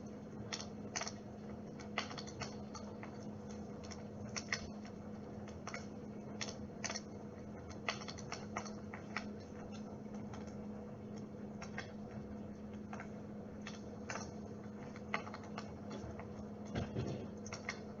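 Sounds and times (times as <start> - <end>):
low electrical hum: 0.0 - 18.0
sharp clicks and crackles: 0.4 - 1.2, 1.8 - 18.0.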